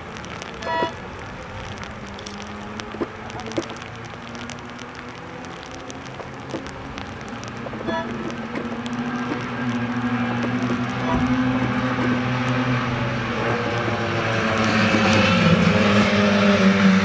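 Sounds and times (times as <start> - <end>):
rain pattering and dripping: 0.0 - 17.0
distant race car engines: 0.5 - 17.0.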